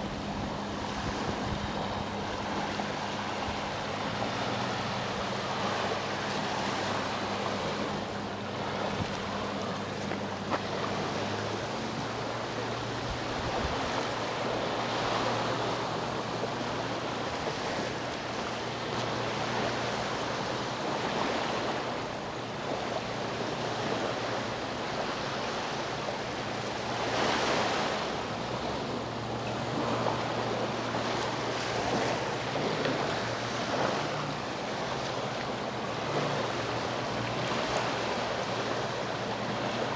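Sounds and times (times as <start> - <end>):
boat engine hum: 0.0 - 39.9
sea waves washing ashore: 0.0 - 39.9.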